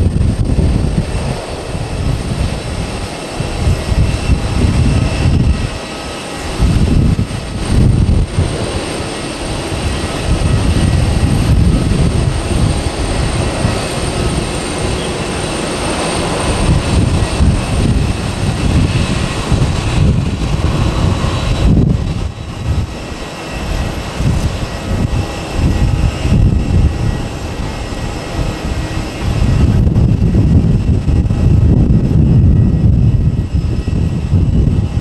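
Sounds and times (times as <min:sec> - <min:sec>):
jet airliner climbing: 0:00.0 - 0:35.0.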